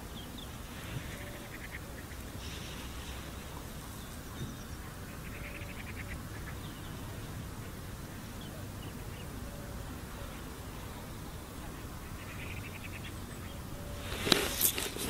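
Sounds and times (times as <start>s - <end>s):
wind rumble on microphone: 0.0s - 15.0s
faint bird chirps: 0.1s - 14.3s.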